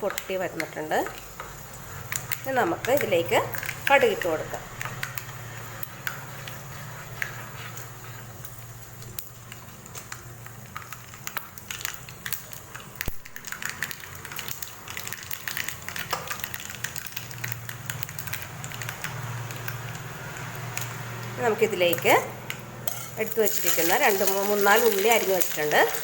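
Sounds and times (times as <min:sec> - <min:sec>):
mustard seeds popping in oil: 0:00.0 - 0:26.0.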